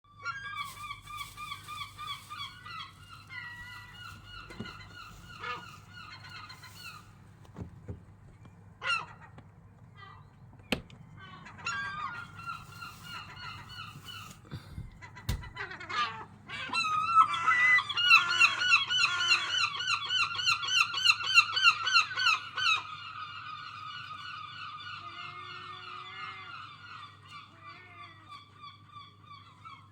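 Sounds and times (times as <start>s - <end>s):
gulls calling: 0.1s - 7.2s, 10.0s - 29.9s.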